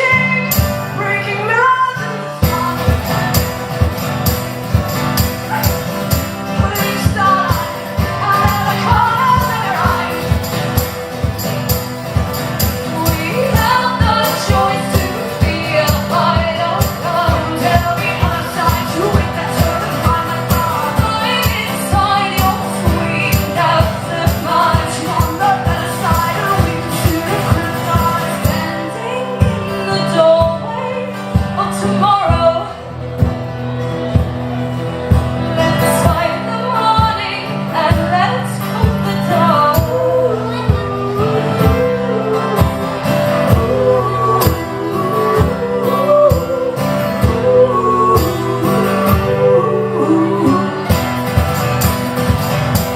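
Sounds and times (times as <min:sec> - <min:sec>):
person singing: 0:00.0 - 0:11.1, 0:12.2 - 0:32.8, 0:35.4 - 0:51.7
strummed acoustic guitar: 0:00.0 - 0:52.9.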